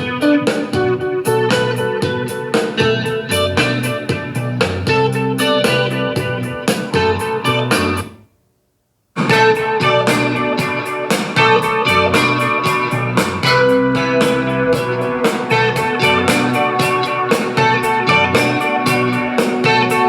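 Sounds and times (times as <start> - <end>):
guitar music over a beat: 0.0 - 8.2, 9.2 - 20.0.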